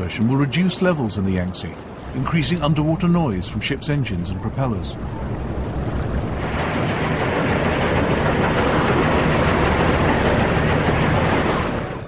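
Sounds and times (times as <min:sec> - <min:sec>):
ship engine low hum: 0:00.0 - 0:12.0.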